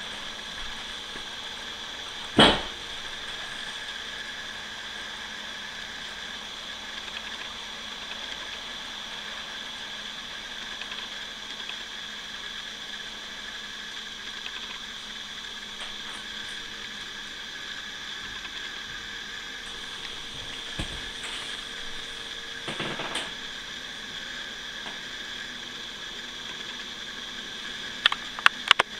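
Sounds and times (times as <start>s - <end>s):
model train motor whine: 0.0s - 28.9s.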